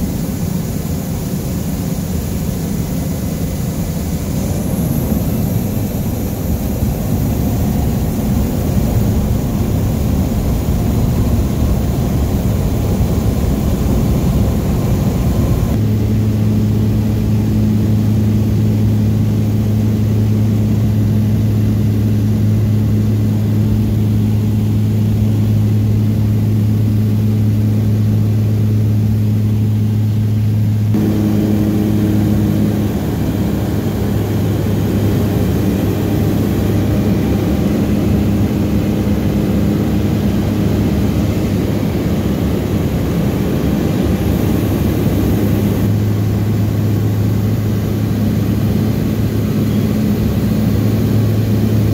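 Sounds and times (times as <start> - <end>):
propeller plane engine drone: 0.0 - 51.9.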